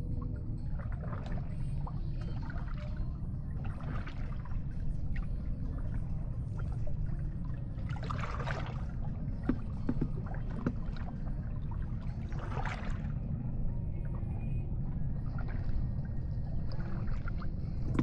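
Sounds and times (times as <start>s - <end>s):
steady low rumble: 0.0s - 18.0s
water lapping against boat: 0.1s - 18.0s.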